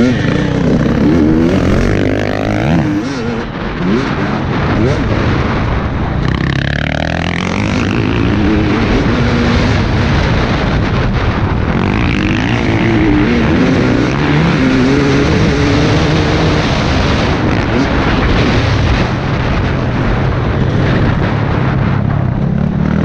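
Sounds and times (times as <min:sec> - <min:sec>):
dirt bike engine revving: 0:00.0 - 0:19.7, 0:20.5 - 0:23.0
wind noise on helmet: 0:00.0 - 0:23.0.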